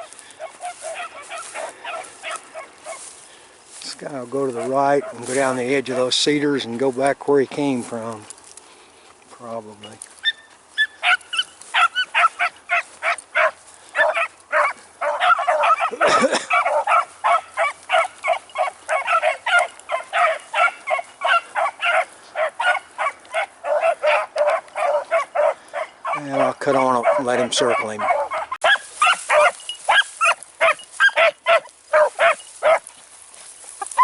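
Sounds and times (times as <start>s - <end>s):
dogs baying: 0.0s - 3.5s, 4.3s - 6.0s, 10.1s - 33.1s.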